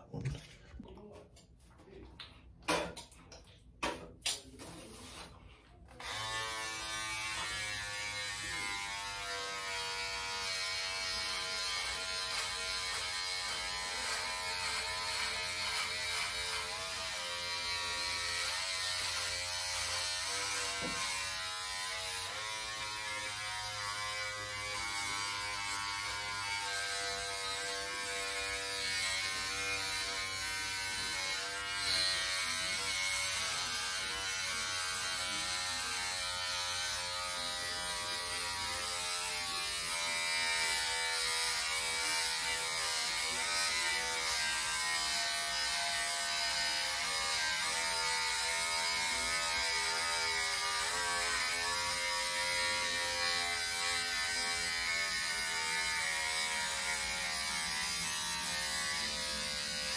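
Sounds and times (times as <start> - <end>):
electric shaver buzzing: 5.9 - 59.9.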